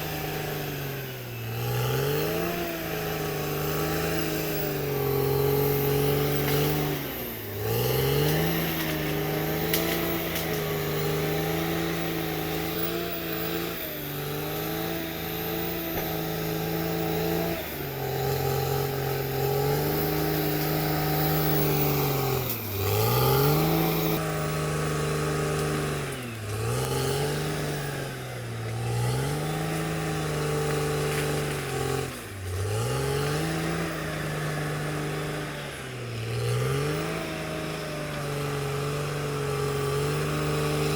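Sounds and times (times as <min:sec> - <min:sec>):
bulldozer diesel engine lugging: 0:00.0 - 0:40.9.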